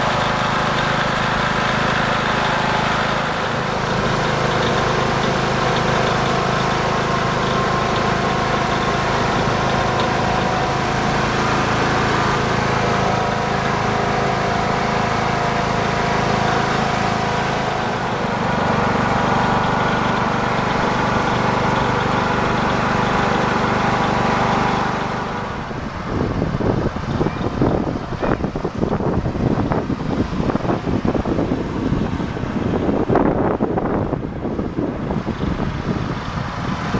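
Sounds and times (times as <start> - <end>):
small ride engine running: 0.0 - 36.9.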